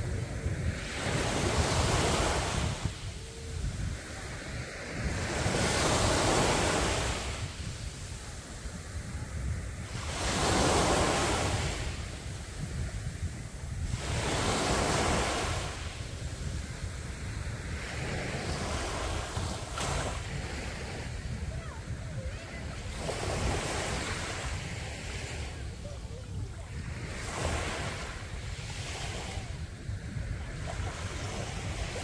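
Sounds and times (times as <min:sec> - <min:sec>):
sea waves breaking ashore: 0:00.0 - 0:32.0
wind rumble on microphone: 0:00.0 - 0:32.0.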